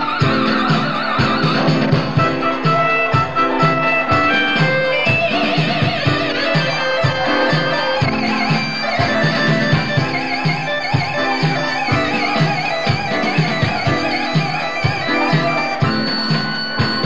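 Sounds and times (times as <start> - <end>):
backing track with steady beat: 0.0 - 17.0
lead synth solo: 0.0 - 17.0.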